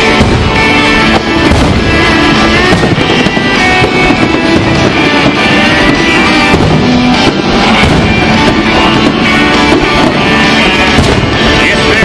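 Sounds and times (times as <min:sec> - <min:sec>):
band music from radio: 0:00.0 - 0:12.0.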